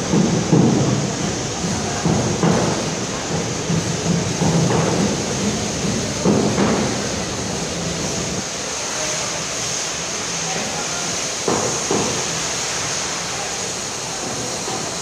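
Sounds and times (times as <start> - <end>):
crowd hubbub: 0.0 - 12.3.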